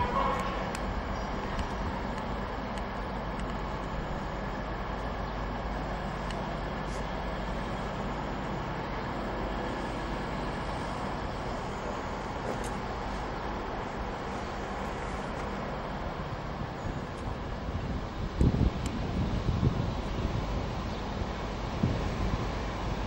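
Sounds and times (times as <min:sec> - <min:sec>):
diesel train engines idling: 0:00.0 - 0:23.0.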